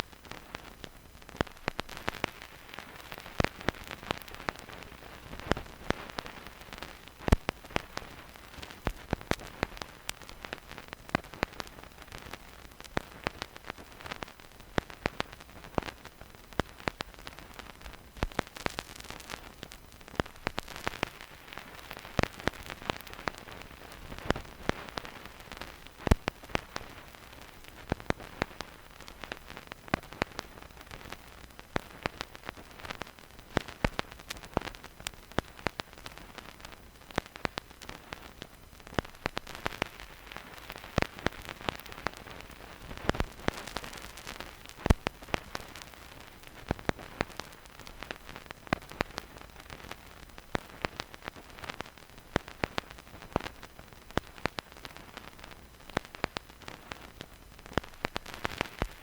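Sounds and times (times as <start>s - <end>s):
vinyl record hiss and crackle: 0.0s - 59.0s.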